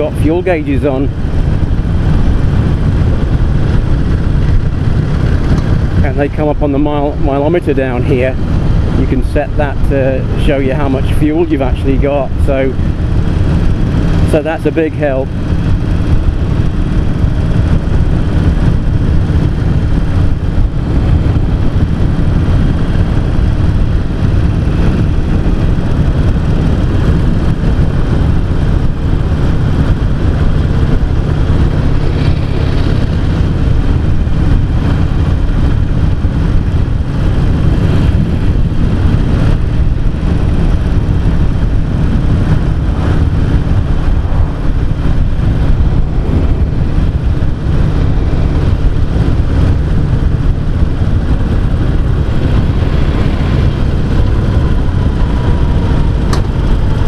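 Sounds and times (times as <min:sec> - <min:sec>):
motorcycle engine running: 0:00.0 - 0:57.0
wind rushing past microphone: 0:00.0 - 0:57.0.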